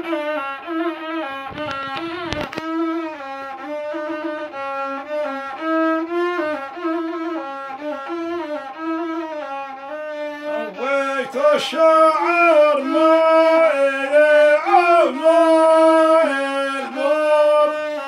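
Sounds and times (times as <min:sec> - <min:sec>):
bowed fiddle melody: 0:00.0 - 0:18.0.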